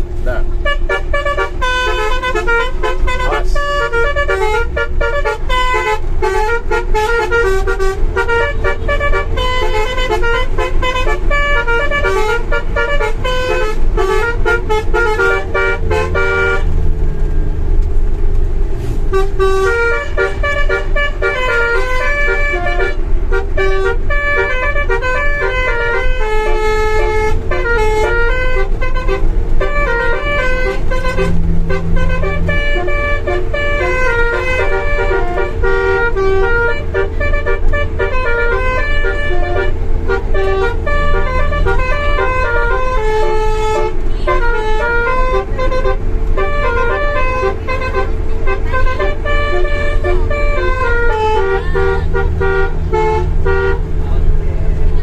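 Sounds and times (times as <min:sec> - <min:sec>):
bus horn playing melody: 0:00.0 - 0:55.0
low engine rumble: 0:00.0 - 0:55.0.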